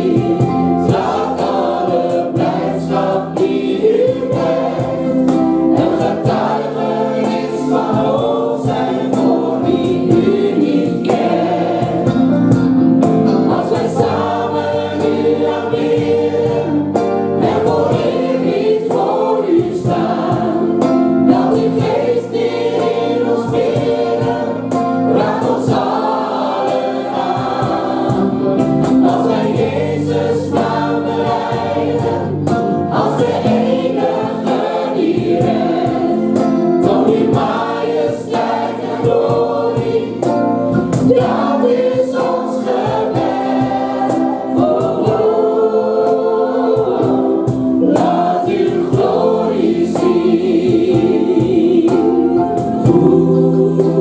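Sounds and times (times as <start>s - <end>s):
group singing in harmony: 0.0s - 54.0s
music with steady beat: 0.0s - 54.0s.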